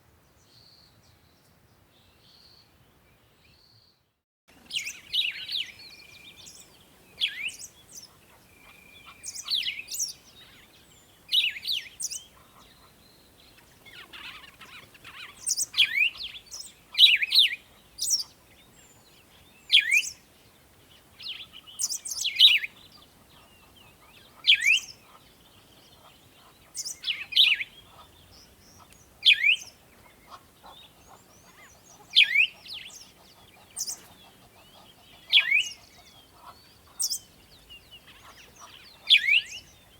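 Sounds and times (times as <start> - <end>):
songbirds chirping: 0.1 - 39.9.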